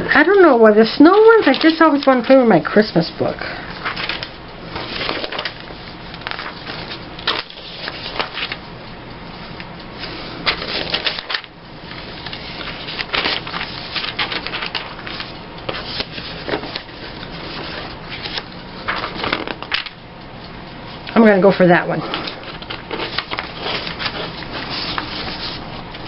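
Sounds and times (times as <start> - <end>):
paper rustling and crackling: 0.9 - 2.4, 3.8 - 8.6, 10.0 - 20.0, 21.5 - 26.0.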